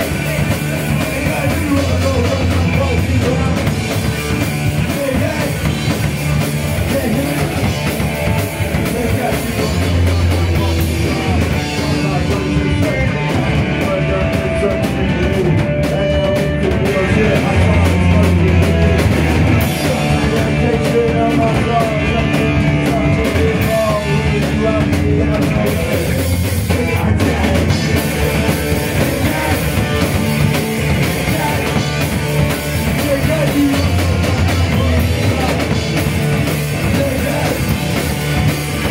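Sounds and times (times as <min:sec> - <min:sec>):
bass guitar: 0:00.0 - 0:38.9
distorted electric guitar: 0:00.0 - 0:38.9
drum kit: 0:00.0 - 0:38.9.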